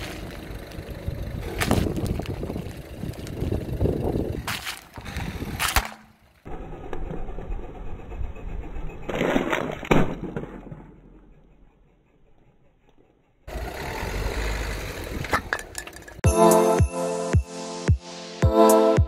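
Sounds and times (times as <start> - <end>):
car tyre rumbling on asphalt: 0.0 - 16.2.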